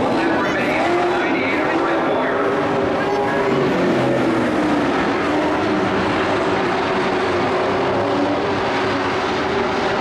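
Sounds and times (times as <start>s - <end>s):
race truck engines running: 0.0s - 10.0s.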